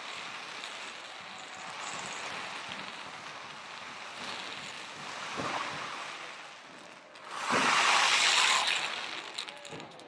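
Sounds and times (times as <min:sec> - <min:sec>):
fireworks hissing and crackling: 0:00.0 - 0:10.0.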